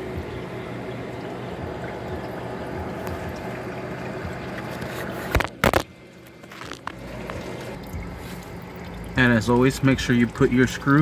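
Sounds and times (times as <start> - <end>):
oil draining into pan: 0.0 - 11.0.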